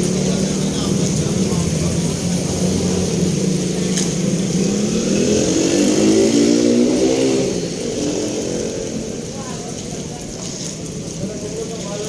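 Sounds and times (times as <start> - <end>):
vehicle engine passing: 0.0 - 9.9
heavy rain hiss: 0.0 - 12.0.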